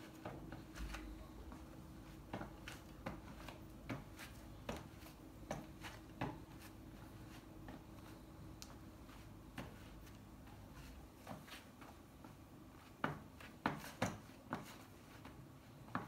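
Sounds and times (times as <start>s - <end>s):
faint steady hum: 0.0s - 16.0s
footsteps on hard floor: 0.0s - 16.0s.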